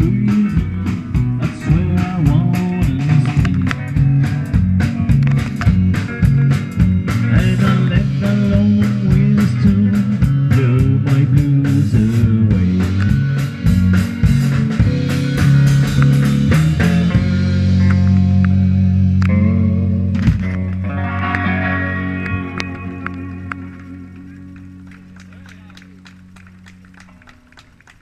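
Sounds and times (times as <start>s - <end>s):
rock band playing: 0.0s - 28.0s
sustained electric guitar notes: 0.0s - 28.0s.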